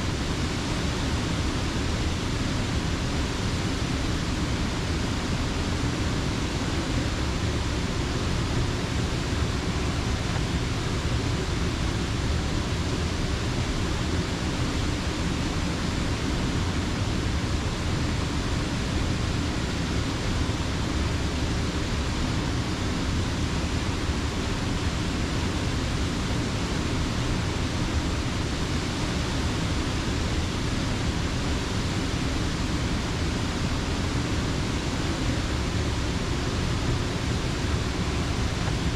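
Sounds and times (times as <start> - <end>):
water rushing over dam: 0.0 - 38.9.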